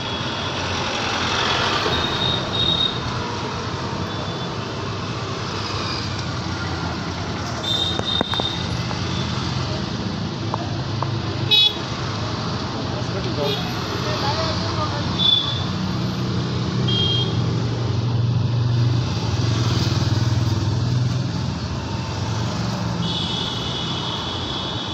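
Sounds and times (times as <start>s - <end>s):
traffic engines passing: 0.0s - 24.9s.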